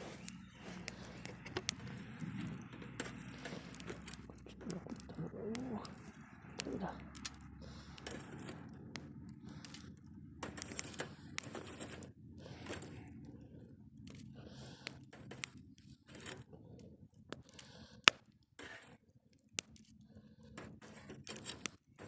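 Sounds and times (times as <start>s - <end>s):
charred wood scraping in embers: 0.0s - 16.6s, 17.3s - 22.0s
wood fire crackling: 0.0s - 22.0s.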